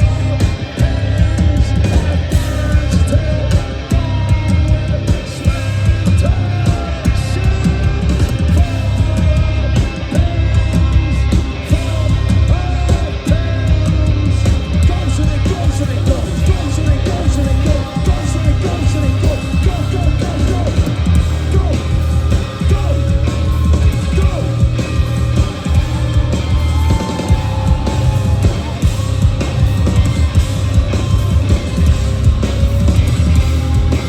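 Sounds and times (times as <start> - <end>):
live punk rock band: 0.0 - 34.0.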